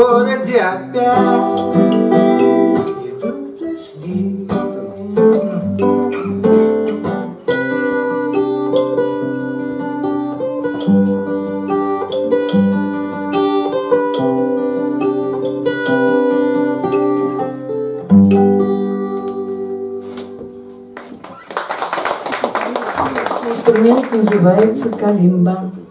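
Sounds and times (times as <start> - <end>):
acoustic guitar strumming: 0.0 - 21.2, 23.0 - 25.5.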